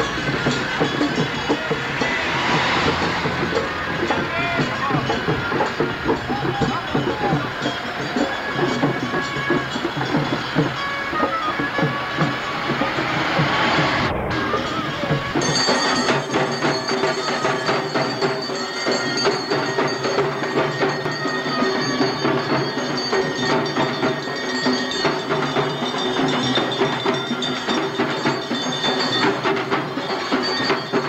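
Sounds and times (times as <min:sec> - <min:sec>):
rapid percussion strikes: 0:00.0 - 0:31.0
ringing bell-like tones: 0:00.0 - 0:31.0.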